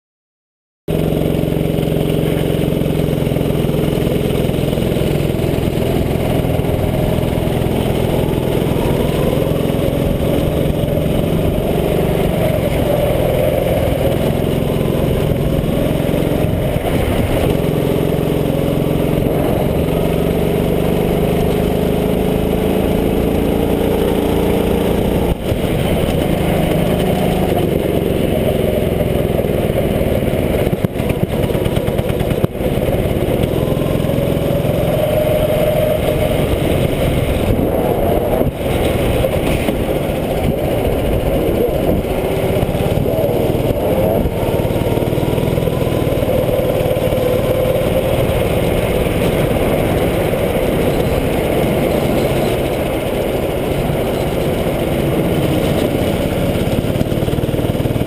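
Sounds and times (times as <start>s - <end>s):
kart engine revving: 0.9s - 58.0s.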